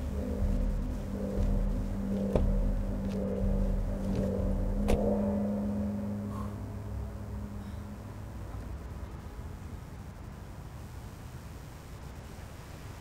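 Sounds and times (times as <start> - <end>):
low steady hum and rumble: 0.0 - 13.0.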